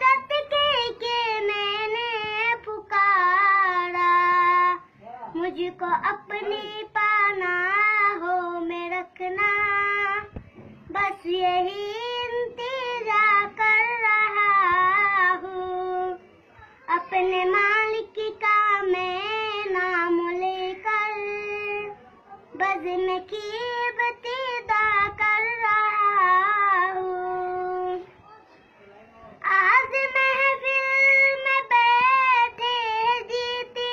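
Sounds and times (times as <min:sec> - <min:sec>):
boy singing unaccompanied: 0:00.0 - 0:16.2, 0:16.8 - 0:28.1, 0:29.4 - 0:33.9.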